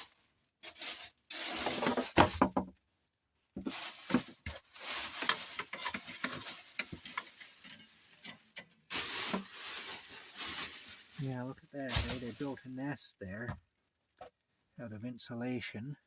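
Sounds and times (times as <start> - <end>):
plastic bags rustling: 0.0 - 13.9.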